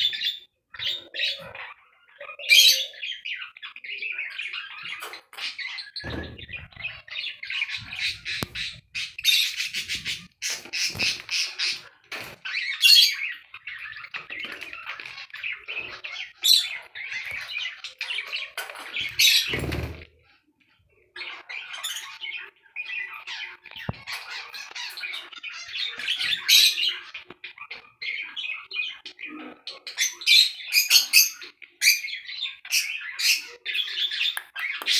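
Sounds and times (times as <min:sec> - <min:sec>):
budgerigar chattering and squawking: 0:00.0 - 0:19.8, 0:21.0 - 0:34.9.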